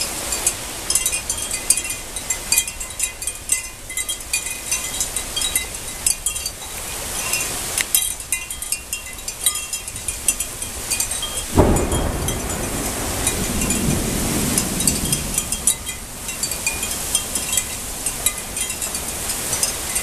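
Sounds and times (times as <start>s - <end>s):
high ringing clinks: 0.0s - 14.0s, 14.6s - 20.0s
heavy rain falling: 0.0s - 20.0s.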